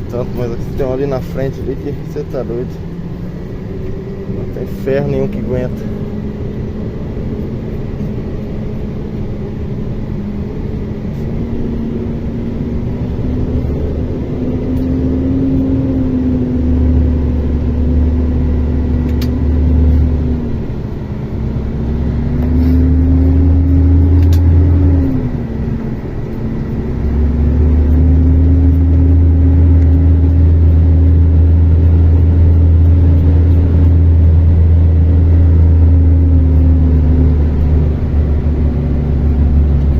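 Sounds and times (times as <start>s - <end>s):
diesel truck engine pulling hard: 0.0s - 39.9s.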